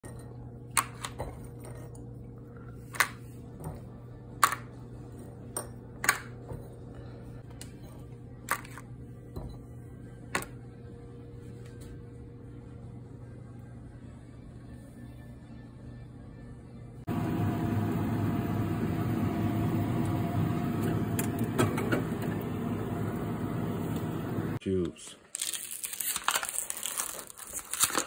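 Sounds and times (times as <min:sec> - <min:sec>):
steady low hum: 0:01.3 - 0:24.6.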